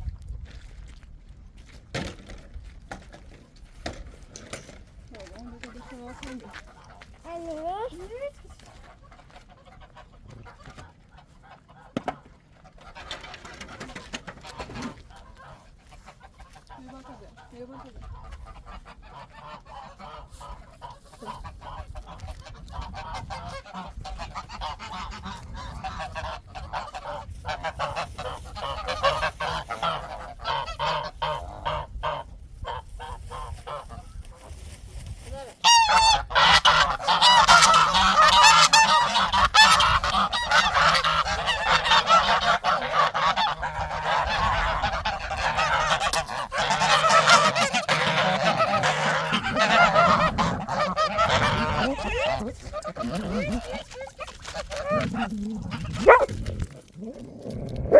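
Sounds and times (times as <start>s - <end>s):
geese honking: 5.2s - 33.9s, 35.6s - 56.3s.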